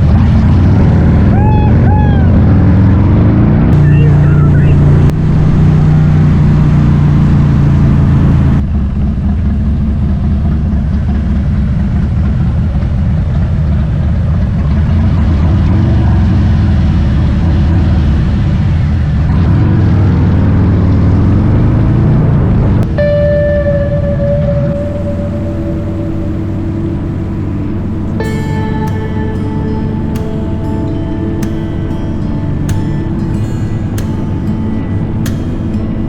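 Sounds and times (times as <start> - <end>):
motorcycle engine running: 0.0 - 18.1, 19.4 - 36.0.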